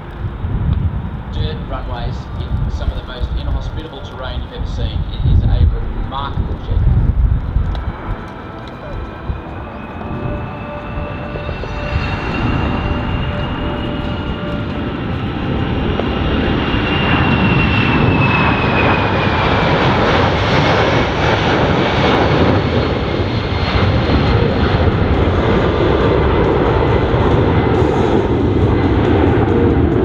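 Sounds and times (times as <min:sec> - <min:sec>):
jet engine rumble: 0:00.0 - 0:30.0
thin high jet whine: 0:00.0 - 0:30.0.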